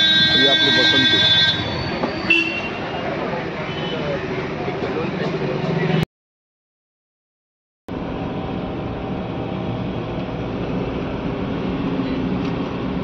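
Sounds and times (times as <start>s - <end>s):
car engine and road noise: 0.1s - 6.0s, 7.9s - 13.0s.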